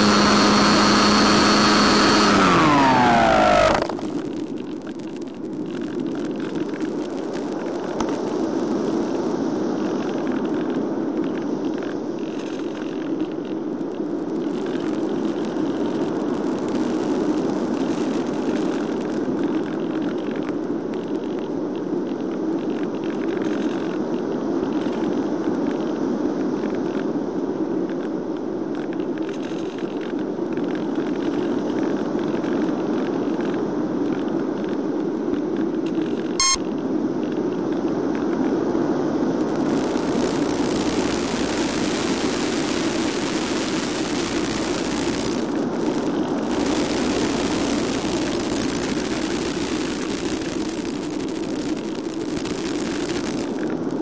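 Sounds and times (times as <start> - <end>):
faint radio crackle: 0.0 - 27.2, 27.8 - 36.7, 39.2 - 54.0.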